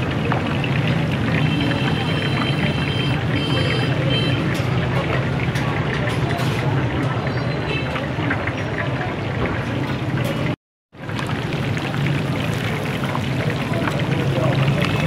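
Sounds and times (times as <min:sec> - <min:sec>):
fish sizzling in hot oil: 0:00.0 - 0:09.4, 0:11.0 - 0:15.0.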